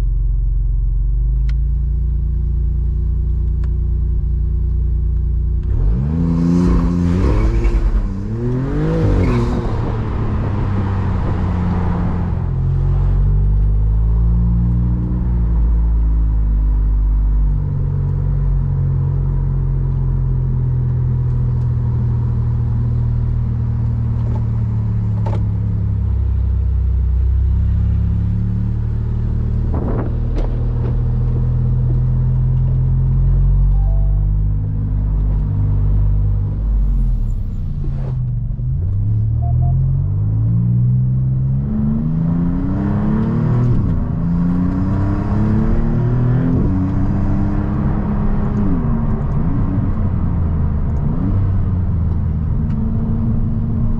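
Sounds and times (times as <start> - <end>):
car engine revving: 5.5 - 26.2, 27.2 - 53.9.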